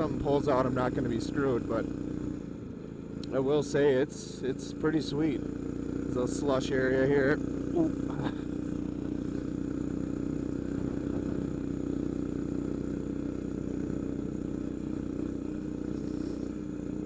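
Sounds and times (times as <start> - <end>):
minibike engine running: 0.0 - 17.0.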